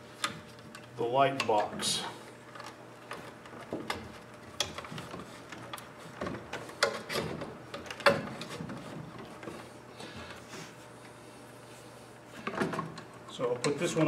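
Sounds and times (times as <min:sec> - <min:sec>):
cable scraping and rustling: 0:00.2 - 0:14.0.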